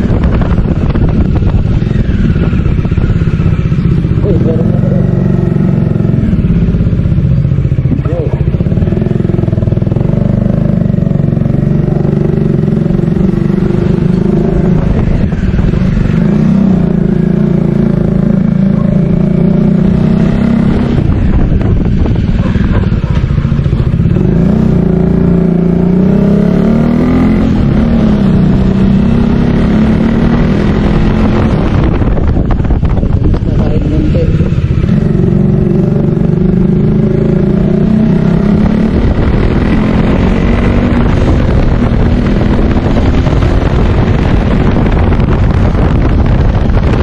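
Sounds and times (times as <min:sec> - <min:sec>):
motorcycle engine with noisy exhaust: 0:00.0 - 0:47.0.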